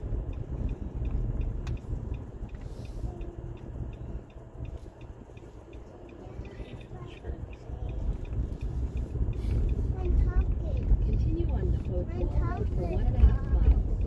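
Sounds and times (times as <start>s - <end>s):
car road noise inside cabin: 0.0s - 14.0s.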